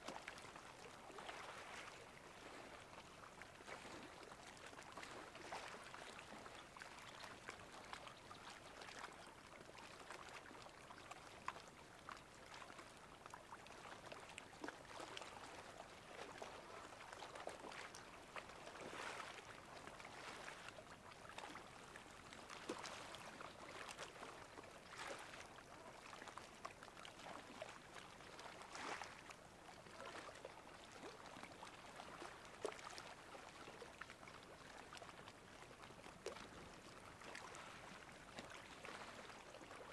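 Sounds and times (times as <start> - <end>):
small water splashes: 0.0 - 39.9
water lapping and trickling: 0.0 - 39.9.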